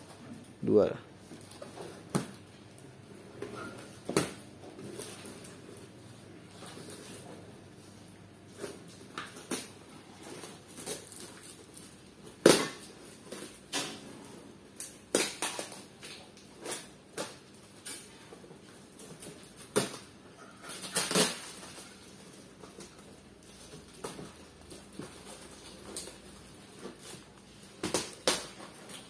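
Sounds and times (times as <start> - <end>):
bubble wrap and cardboard crinkling: 1.2 - 29.0.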